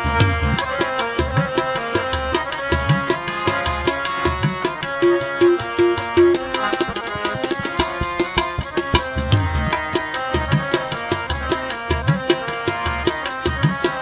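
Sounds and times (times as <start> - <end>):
harmonium notes: 0.0 - 14.0
tabla rhythm: 0.0 - 14.0.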